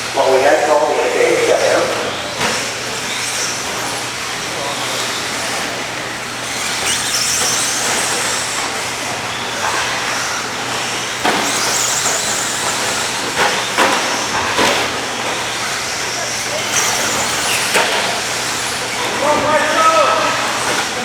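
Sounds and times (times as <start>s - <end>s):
rc truck motors whining: 0.0s - 21.0s.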